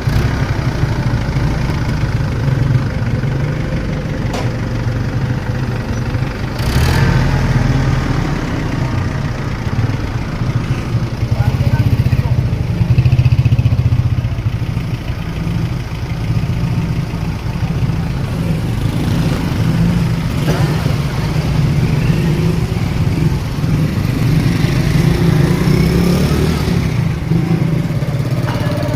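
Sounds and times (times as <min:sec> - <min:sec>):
heavy vehicle engine running: 0:00.0 - 0:28.9.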